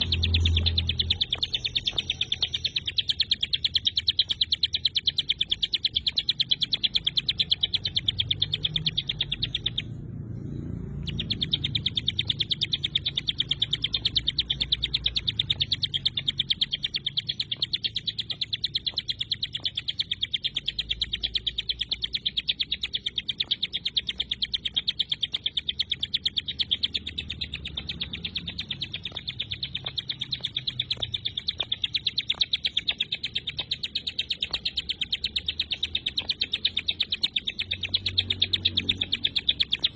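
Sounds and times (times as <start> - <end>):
faint low rumble: 0.0 - 39.9
songbird singing high chirps: 0.0 - 39.9.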